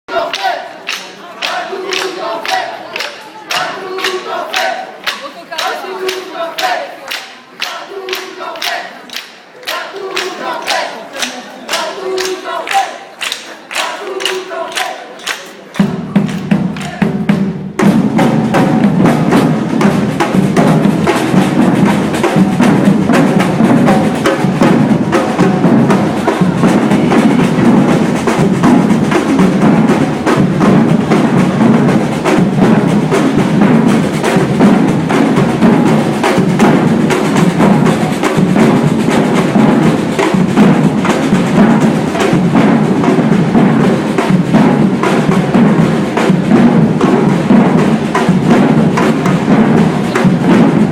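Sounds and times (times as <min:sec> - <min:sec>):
percussion ensemble drumming: 0:00.1 - 0:50.9.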